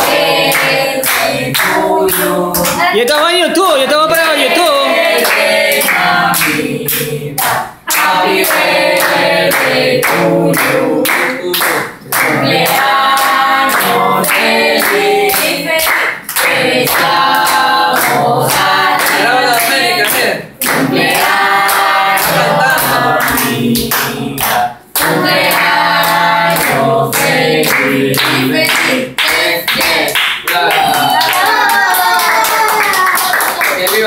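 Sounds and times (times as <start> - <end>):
group singing: 0.0 - 3.0, 4.2 - 31.7
people clapping in rhythm: 0.0 - 34.0.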